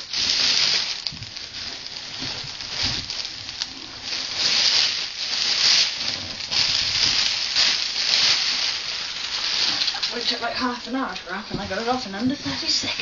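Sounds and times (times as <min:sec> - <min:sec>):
paper and packaging rustling: 0:00.0 - 0:13.0.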